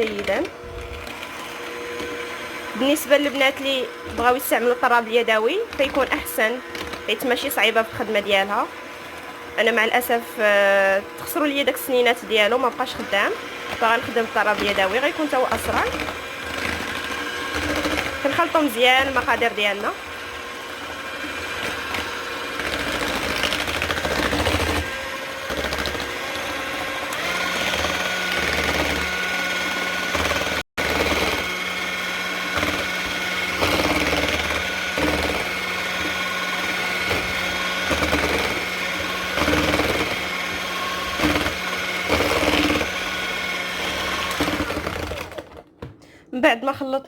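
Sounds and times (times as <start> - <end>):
electric mixer whipping in bowl: 0.0 - 45.7.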